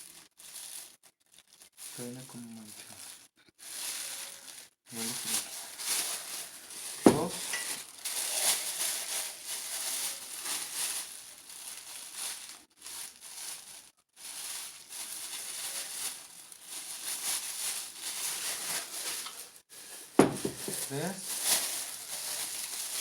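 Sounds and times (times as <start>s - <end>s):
packaging crinkling: 0.0s - 23.0s.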